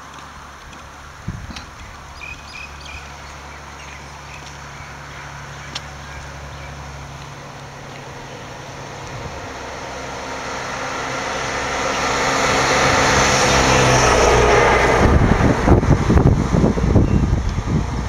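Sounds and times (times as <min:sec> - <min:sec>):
low buffeting: 0:00.0 - 0:18.0
vehicle engine approaching: 0:00.0 - 0:18.0.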